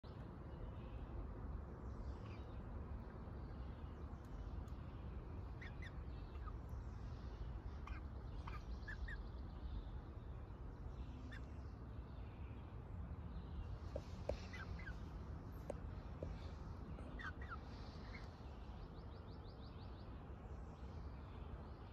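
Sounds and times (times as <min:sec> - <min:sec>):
steady low rumble: 0:00.1 - 0:21.9.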